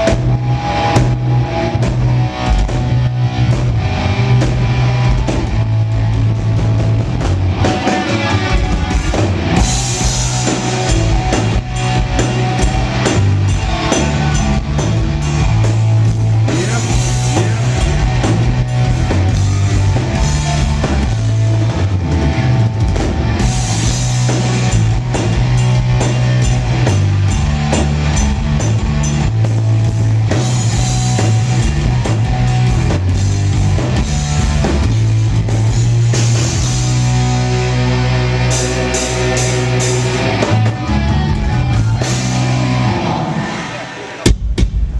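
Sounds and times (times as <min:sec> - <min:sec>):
electric guitars: 0:00.0 - 0:44.3
bass guitar: 0:00.0 - 0:44.9
drum kit: 0:00.0 - 0:44.9.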